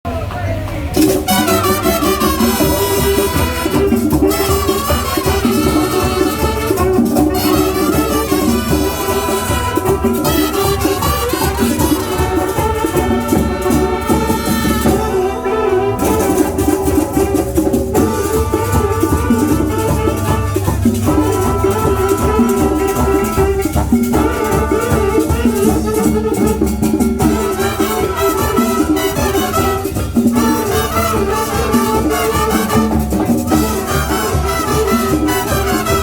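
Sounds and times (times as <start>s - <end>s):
shaker-like percussion: 0.1s - 36.0s
dense drum beat: 0.8s - 36.0s
brass chords: 0.9s - 36.0s.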